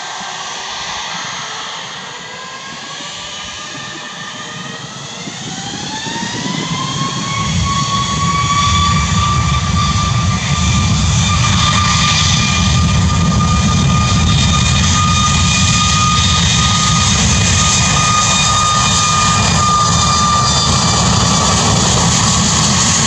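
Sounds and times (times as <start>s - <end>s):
jet engines spooling up: 0.0s - 23.0s.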